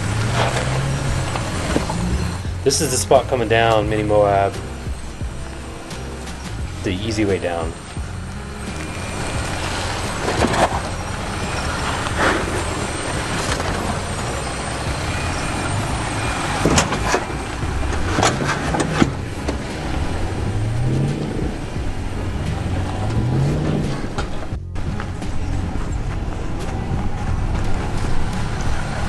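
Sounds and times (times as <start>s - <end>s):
engine running and revving: 0.0s - 29.0s.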